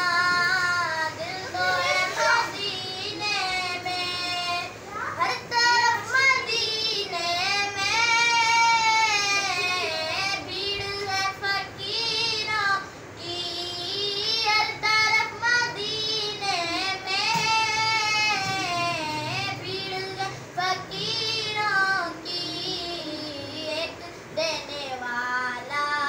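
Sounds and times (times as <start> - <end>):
boy singing: 0.0 - 26.0.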